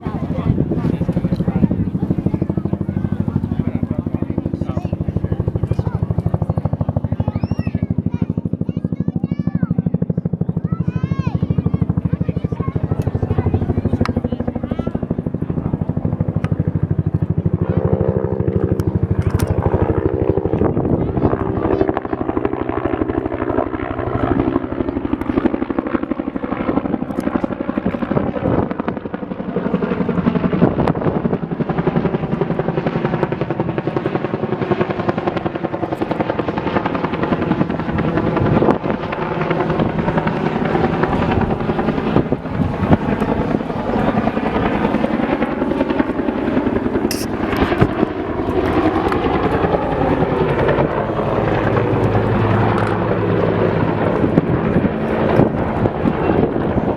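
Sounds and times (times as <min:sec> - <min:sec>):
helicopter rotor chopping: 0:00.0 - 0:56.9.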